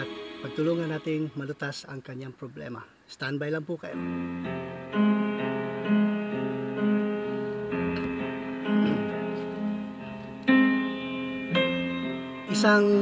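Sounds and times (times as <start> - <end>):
slow piano melody: 0.0 - 1.6, 3.9 - 13.0.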